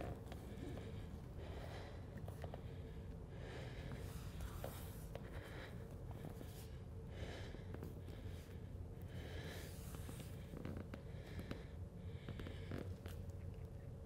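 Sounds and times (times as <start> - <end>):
person breathing slowly: 0.0 - 13.2
low room hum: 0.0 - 14.0.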